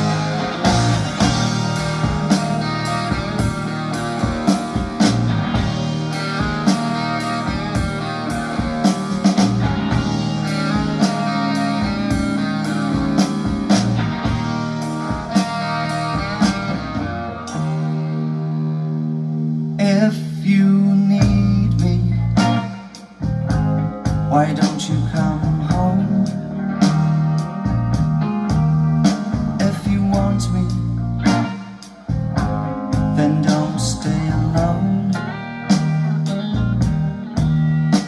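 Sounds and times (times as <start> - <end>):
instrumental rock music: 0.0 - 38.0.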